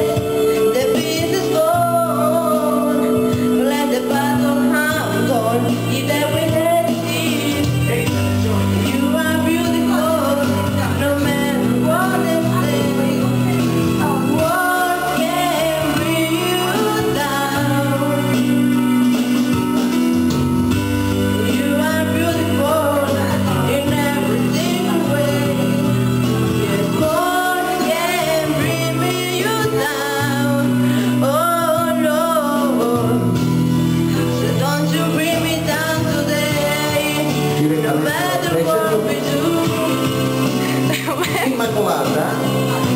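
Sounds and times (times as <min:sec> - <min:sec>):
backing music: 0:00.0 - 0:42.9
woman singing into microphone: 0:00.0 - 0:42.9.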